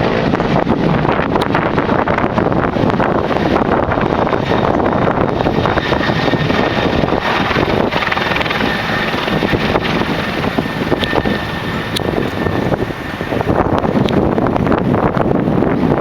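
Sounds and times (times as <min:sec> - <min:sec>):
helicopter rotor and engine: 0:00.0 - 0:16.0
wind buffeting microphone: 0:00.0 - 0:16.0.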